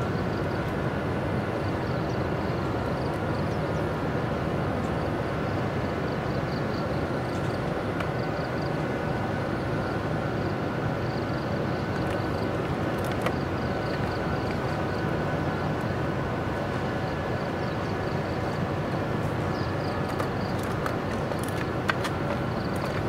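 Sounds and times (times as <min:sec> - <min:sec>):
electric locomotive droning: 0:00.0 - 0:23.0.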